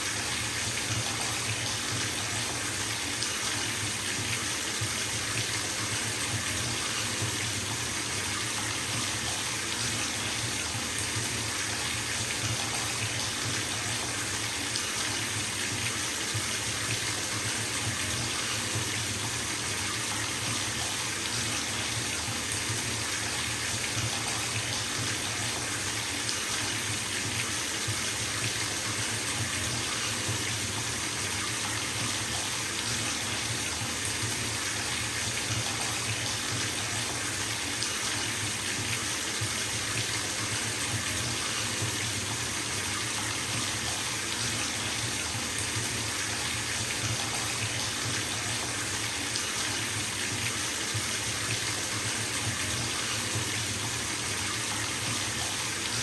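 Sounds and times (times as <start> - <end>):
water running into bathtub: 0.0 - 56.0.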